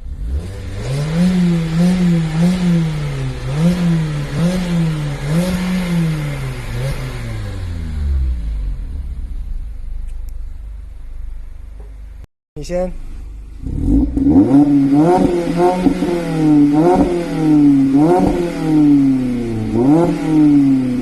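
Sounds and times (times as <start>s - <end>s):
car engine revving: 0.0s - 12.1s, 13.0s - 21.0s.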